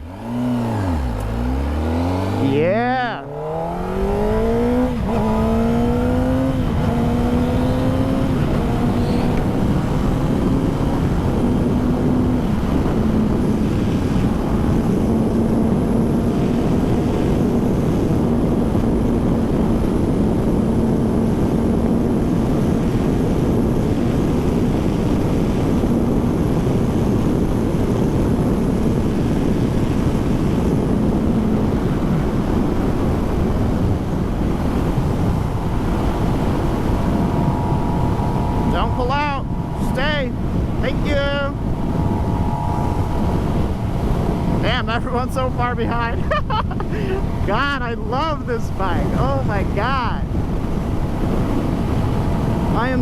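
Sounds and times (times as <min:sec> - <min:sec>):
wind rush over microphone: 0:00.0 - 0:53.0.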